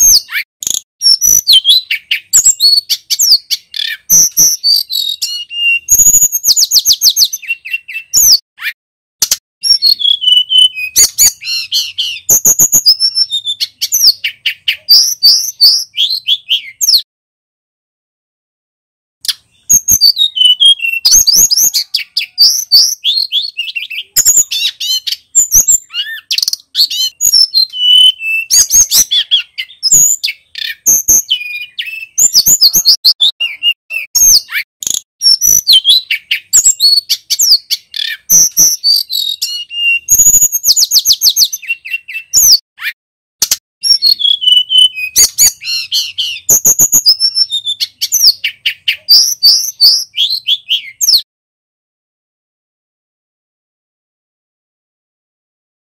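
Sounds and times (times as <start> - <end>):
bird singing chirps and trills: 0.0 - 8.8, 9.6 - 17.1, 19.2 - 43.0, 43.8 - 51.3.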